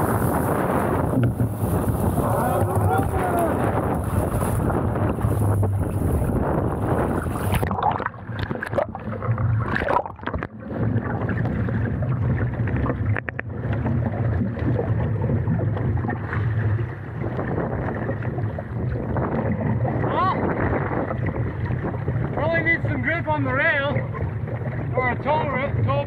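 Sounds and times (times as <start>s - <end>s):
low wind rumble: 0.0s - 26.0s
water rushing past boat hull: 0.0s - 26.0s
water sloshing against hull: 0.0s - 26.0s.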